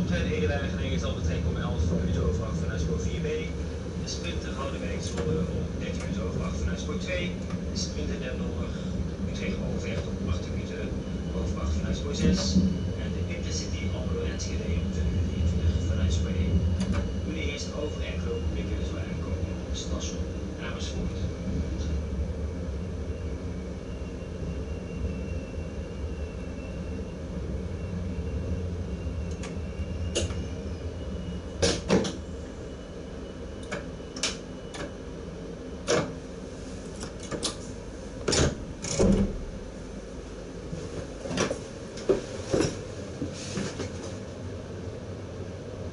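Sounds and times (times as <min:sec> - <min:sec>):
faint high whine: 0:00.0 - 0:38.0
train rumbling to a stop: 0:00.0 - 0:45.9.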